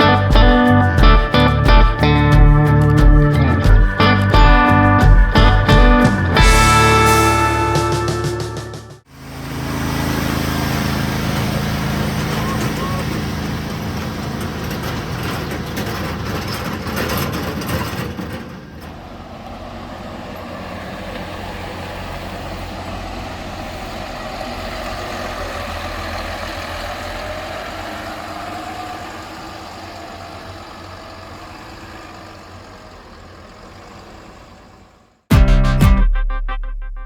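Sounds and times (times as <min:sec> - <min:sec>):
engine running: 0:00.0 - 0:36.1.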